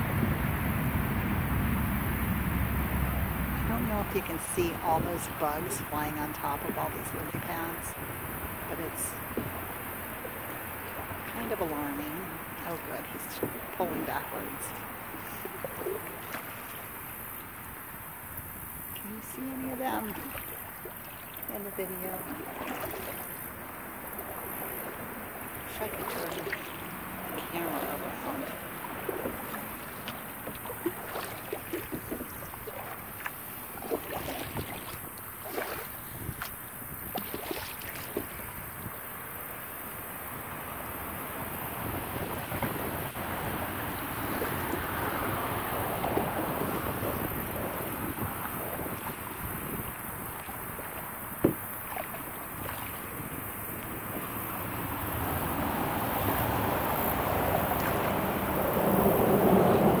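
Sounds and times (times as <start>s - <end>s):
paddle splashing in water: 1.6s - 60.0s.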